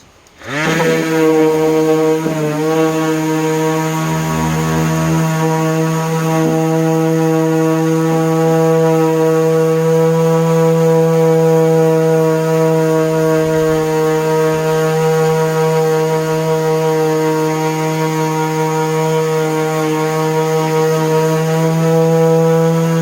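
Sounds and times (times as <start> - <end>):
orbital sander on wood: 0.0 - 23.0.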